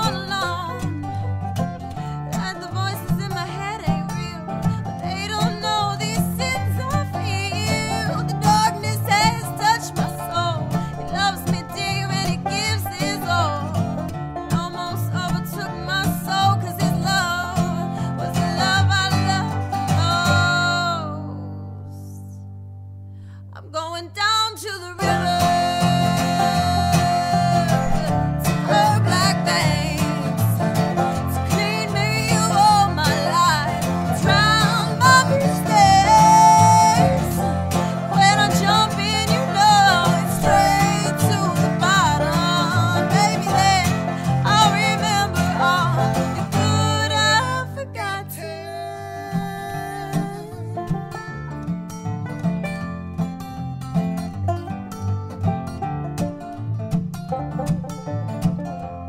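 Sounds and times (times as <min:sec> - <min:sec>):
person singing: 0:00.0 - 0:01.0, 0:02.3 - 0:13.8, 0:14.5 - 0:22.4, 0:23.6 - 0:51.1
bluegrass band music: 0:00.0 - 0:21.8, 0:25.0 - 0:59.0.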